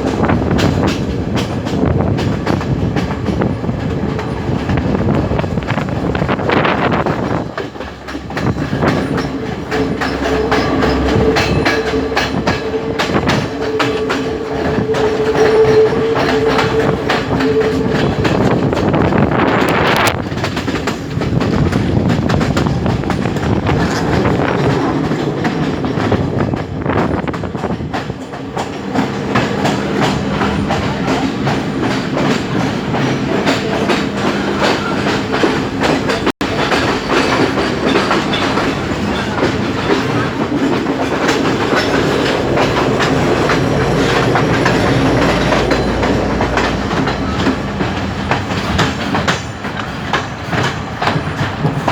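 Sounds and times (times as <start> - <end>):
train wheels clattering over rails: 0.0 - 51.9.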